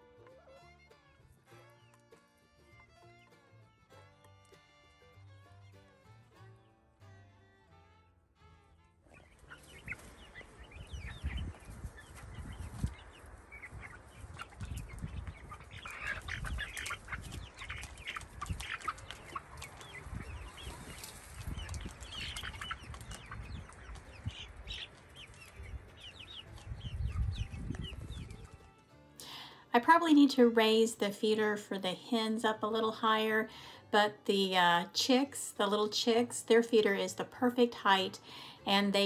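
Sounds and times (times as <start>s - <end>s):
hens clucking: 0.0s - 5.1s, 9.0s - 39.0s.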